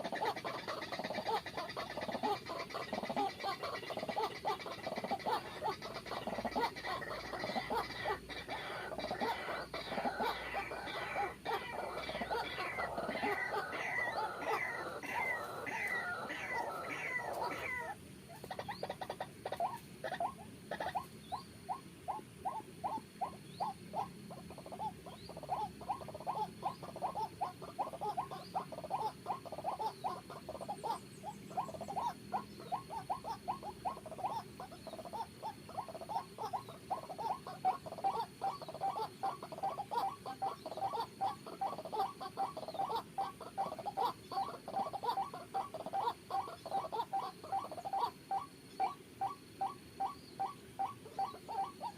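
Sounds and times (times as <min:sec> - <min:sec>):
waterhen calling: 0:00.0 - 0:51.9.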